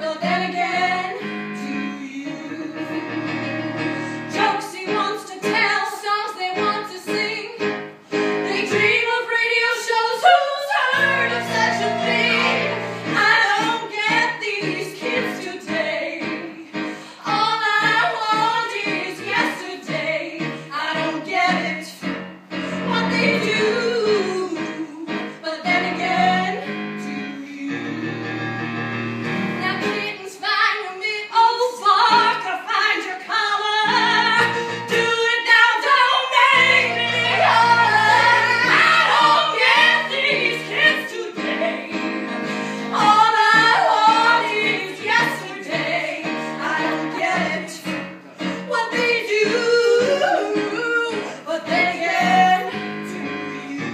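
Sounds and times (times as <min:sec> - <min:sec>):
woman singing: 0:00.0 - 0:03.3, 0:04.3 - 0:07.6, 0:08.5 - 0:22.0, 0:22.9 - 0:28.1, 0:29.6 - 0:47.9, 0:48.7 - 0:53.9.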